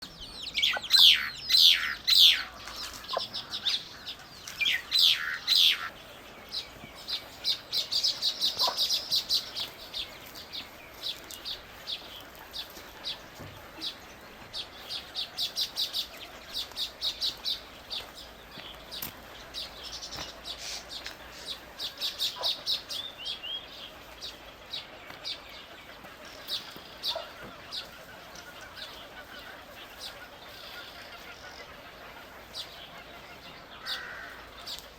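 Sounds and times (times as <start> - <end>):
loud falling bird calls: 0.0 - 34.9
small birds chirping: 0.0 - 34.9.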